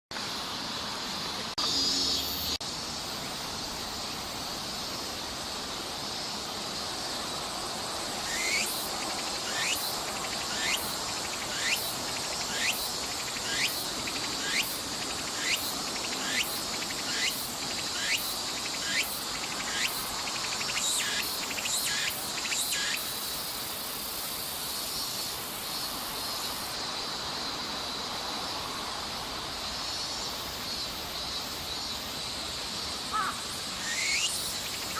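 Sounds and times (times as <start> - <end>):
high insect buzz: 0.2 - 27.6, 29.7 - 34.9
cicada singing: 0.2 - 34.9.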